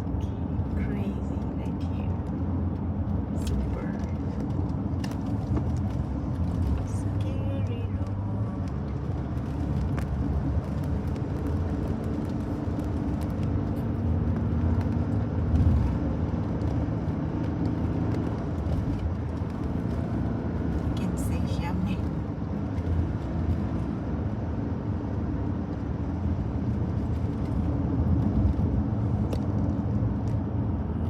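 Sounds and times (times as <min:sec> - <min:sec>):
car interior engine and tyre rumble: 0:00.0 - 0:31.0.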